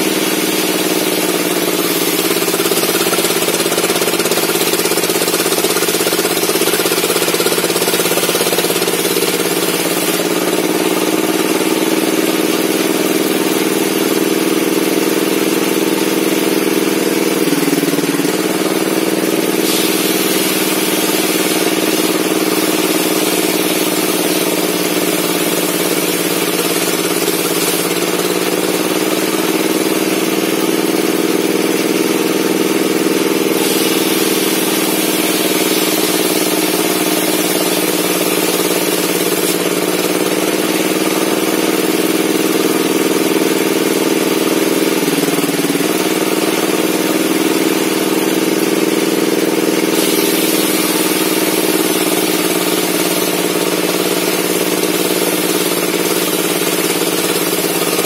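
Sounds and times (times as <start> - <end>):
table saw running: 0.0 - 58.0.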